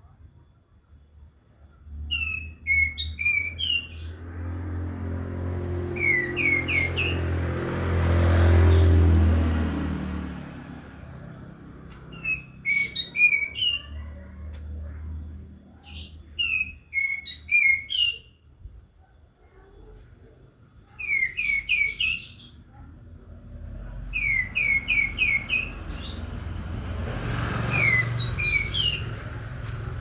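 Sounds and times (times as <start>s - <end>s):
songbird chirping: 1.2s - 9.7s, 11.0s - 18.5s, 19.9s - 22.7s, 23.8s - 29.9s.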